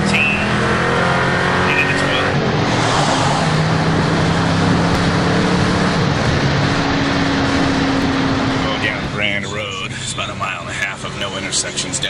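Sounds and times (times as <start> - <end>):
car engine droning: 0.0 - 12.0
road noise inside car: 0.0 - 12.0.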